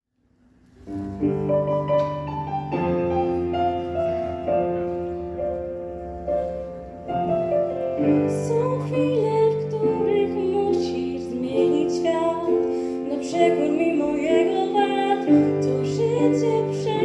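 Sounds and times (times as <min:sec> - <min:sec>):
slow piano chords: 0:00.2 - 0:17.0.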